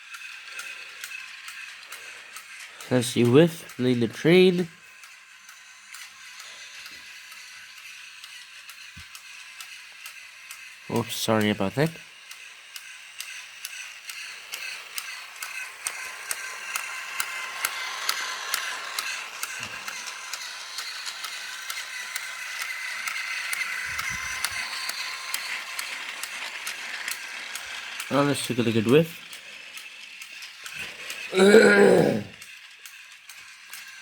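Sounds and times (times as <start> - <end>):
toy train motor whirring: 0.0 - 34.0.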